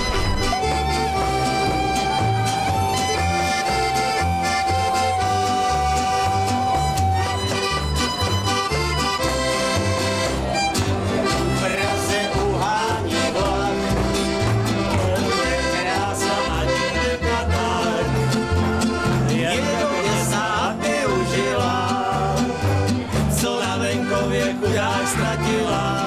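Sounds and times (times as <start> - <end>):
accordion melody: 0.0 - 26.0
plucked double bass: 0.0 - 26.0
strummed acoustic guitar: 0.0 - 26.0.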